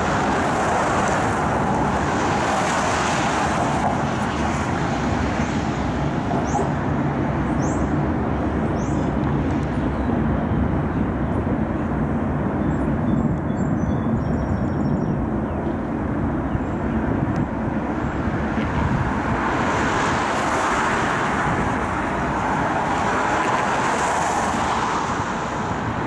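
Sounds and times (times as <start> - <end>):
diesel locomotives rumbling past: 0.0 - 26.0
road traffic noise: 0.0 - 26.0.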